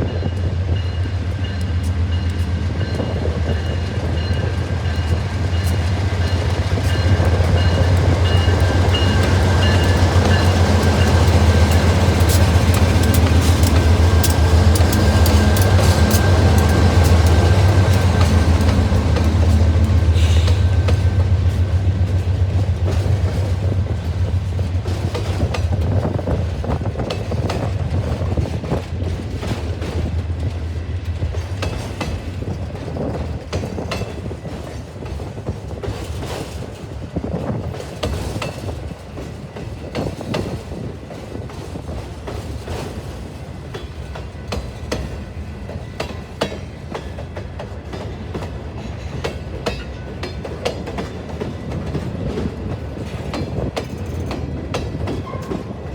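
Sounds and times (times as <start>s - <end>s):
train engine drone: 0.0s - 55.9s
wheels clicking over rail joints: 1.2s - 55.9s.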